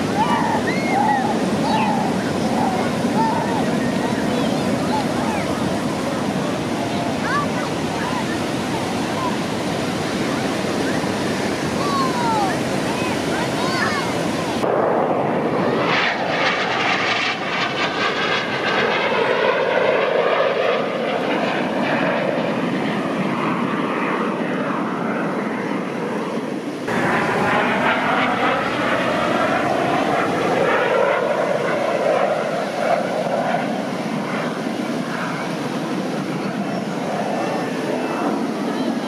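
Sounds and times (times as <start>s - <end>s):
jet aircraft flying past: 0.0s - 39.0s.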